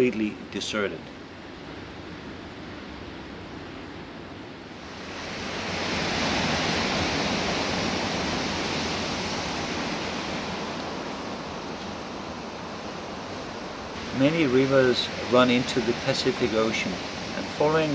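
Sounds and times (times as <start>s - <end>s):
ocean surf on beach: 0.0s - 17.9s.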